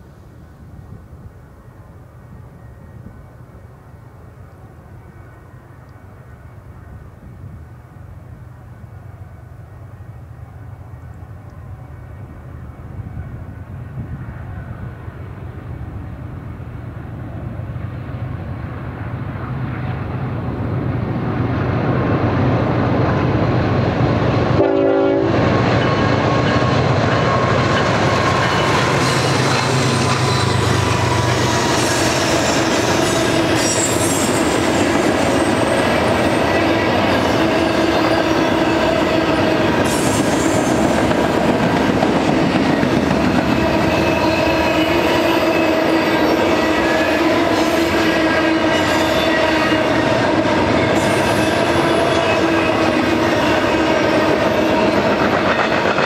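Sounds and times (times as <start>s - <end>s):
diesel locomotive engine rumble: 0.0s - 56.0s
train cars rolling and rail clatter: 0.0s - 56.0s.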